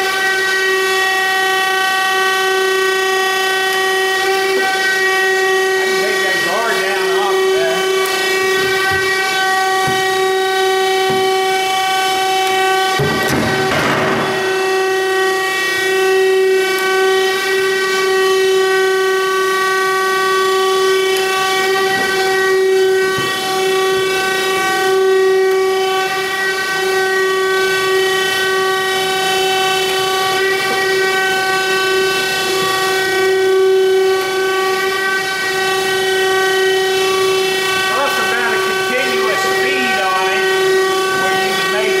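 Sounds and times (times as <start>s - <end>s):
surface grinder whine: 0.0s - 42.0s.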